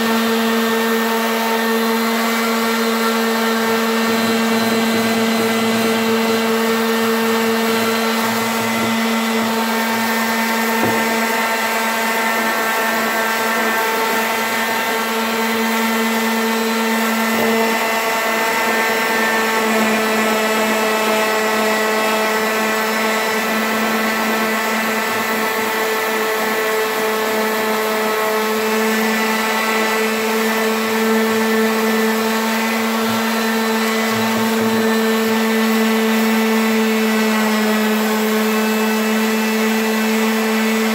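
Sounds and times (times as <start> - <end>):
palm sander running on metal: 0.0 - 40.9.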